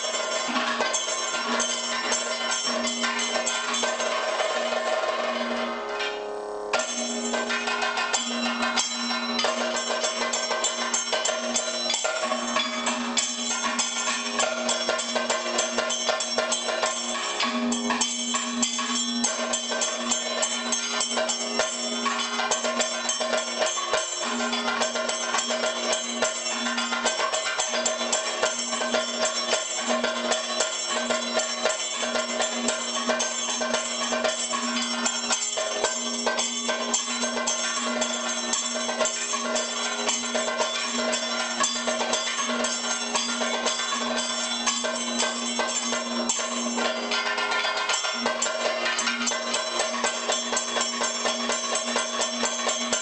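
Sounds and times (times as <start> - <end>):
rapid drum strokes: 0.0 - 53.0
ringing gong and cymbals: 0.0 - 53.0.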